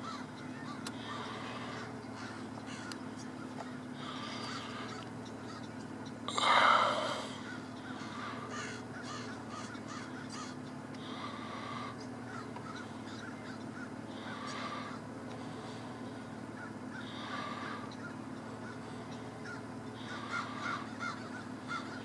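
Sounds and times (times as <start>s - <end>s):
loud bird call: 0.0s - 22.0s
steady low hum: 0.0s - 22.0s.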